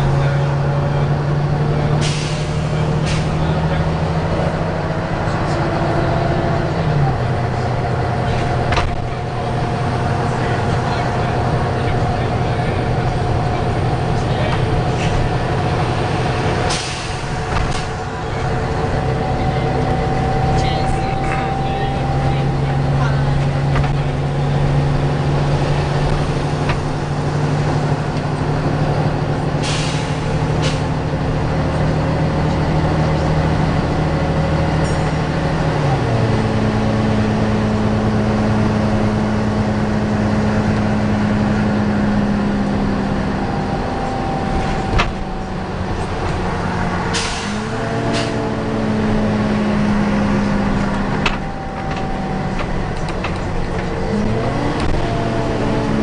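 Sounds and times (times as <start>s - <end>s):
bus engine and fan drone: 0.0s - 56.0s.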